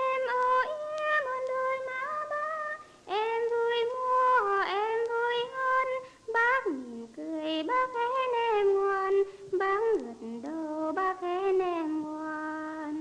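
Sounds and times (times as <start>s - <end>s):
high voice singing slow melody: 0.0s - 13.0s.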